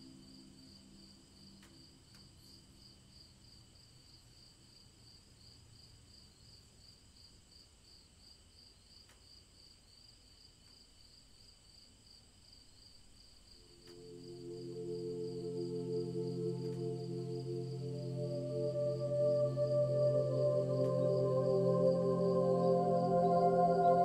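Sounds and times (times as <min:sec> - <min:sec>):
faint crickets chirping: 0:00.0 - 0:24.0.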